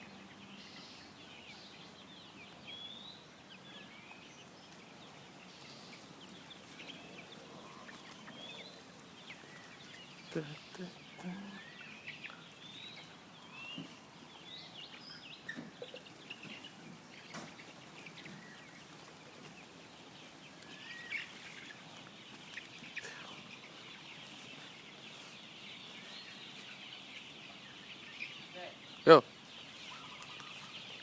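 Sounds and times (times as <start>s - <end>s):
chickens chirping: 0.0s - 31.0s.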